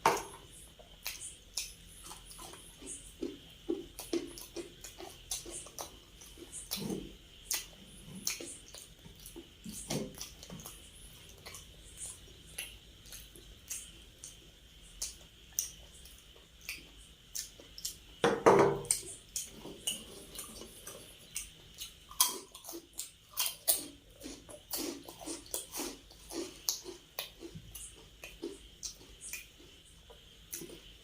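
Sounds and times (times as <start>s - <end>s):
chewing and mouth sounds: 0.2s - 18.2s, 18.8s - 31.0s.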